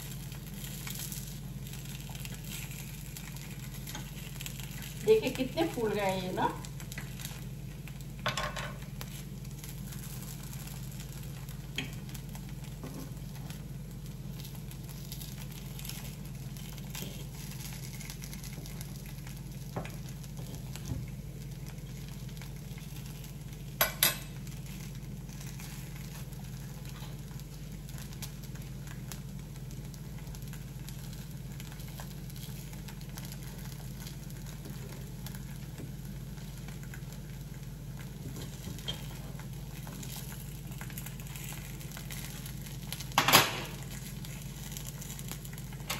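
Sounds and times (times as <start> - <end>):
food sizzling in oil: 0.0 - 45.9
low steady hum: 0.0 - 45.9.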